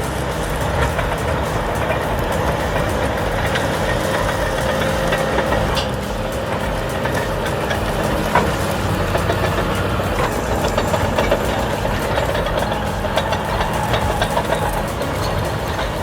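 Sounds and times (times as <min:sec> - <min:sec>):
heavy diesel bulldozer engine: 0:00.0 - 0:16.0.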